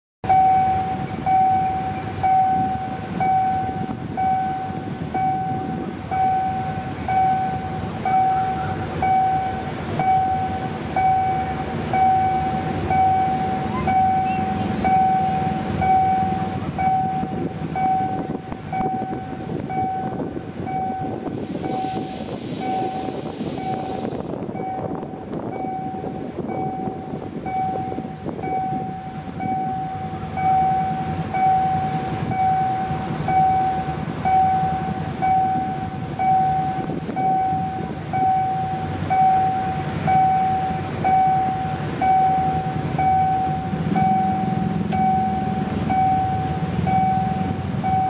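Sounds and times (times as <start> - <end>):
level crossing electronic warning tone: 0.2 - 48.0.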